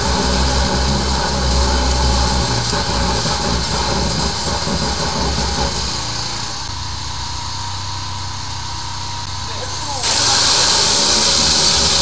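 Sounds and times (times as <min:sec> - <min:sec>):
rushing hiss: 0:00.0 - 0:06.7, 0:08.9 - 0:12.0
drain cleaning machine engine: 0:00.0 - 0:12.0.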